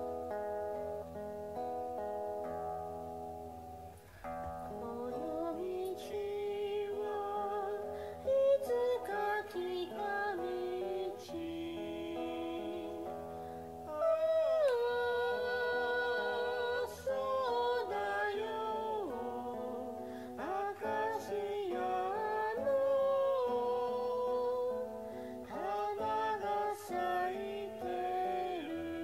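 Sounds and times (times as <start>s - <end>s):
instrumental backing music: 0.0s - 29.0s
person singing with vibrato: 4.0s - 29.0s.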